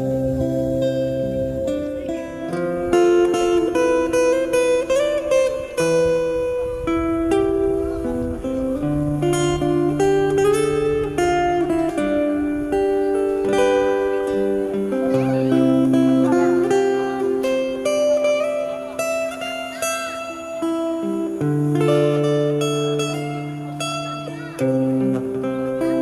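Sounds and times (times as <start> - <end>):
acoustic guitar strummed and plucked: 0.0 - 26.0
ocarina sliding melody: 0.0 - 26.0.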